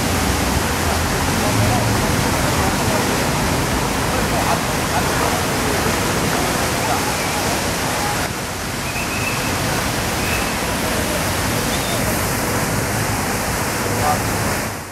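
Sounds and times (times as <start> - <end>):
busy traffic: 0.0 - 14.9.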